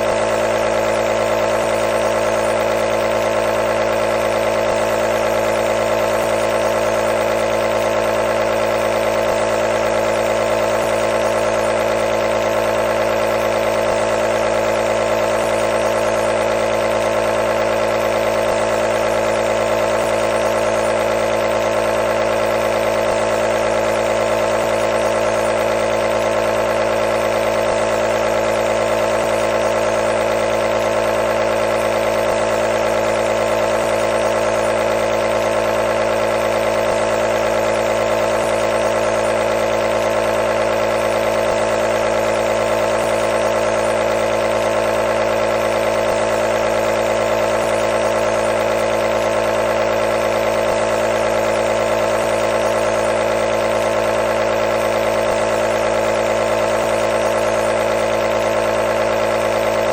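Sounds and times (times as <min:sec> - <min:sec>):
nebulizer machine hum: 0:00.0 - 0:59.9.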